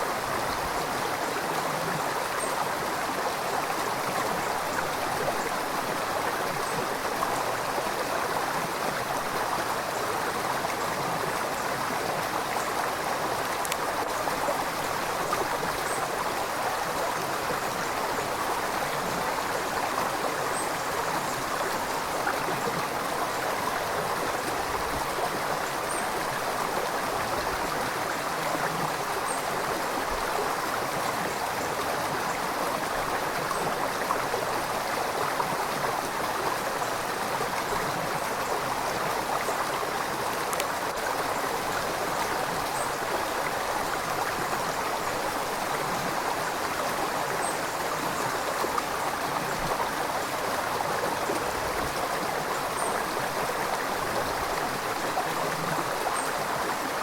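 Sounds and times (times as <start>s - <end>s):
river water flowing and splashing: 0.0s - 57.0s.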